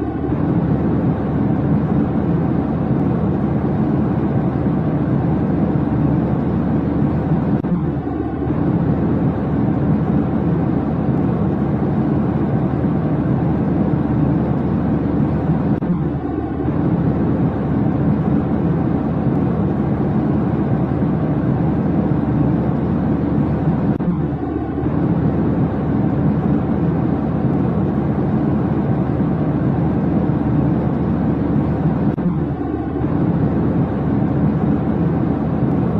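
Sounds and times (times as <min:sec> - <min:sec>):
jet airliner cabin rumble: 0:00.0 - 0:35.9.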